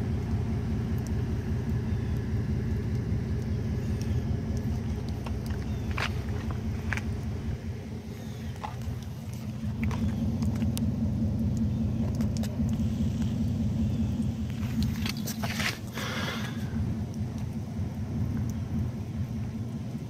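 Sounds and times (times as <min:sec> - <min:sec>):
outboard engine idling: 0:00.0 - 0:20.0
water spraying: 0:00.0 - 0:20.0.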